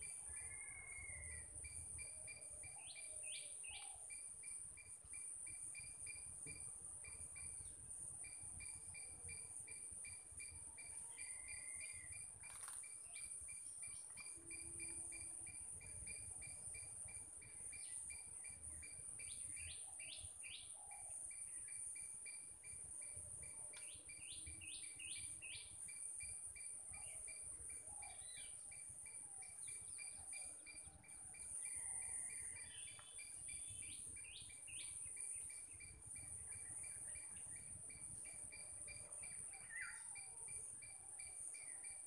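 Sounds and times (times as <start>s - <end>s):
pulsing insect chirp: 0.0s - 42.0s.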